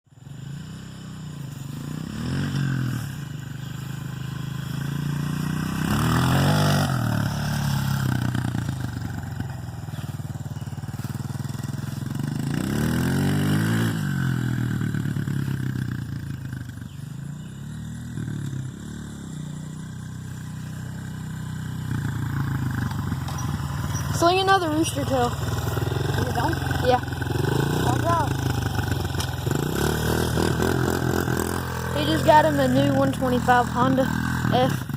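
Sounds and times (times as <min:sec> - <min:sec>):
dirt bike engine revving: 0:00.2 - 0:34.9.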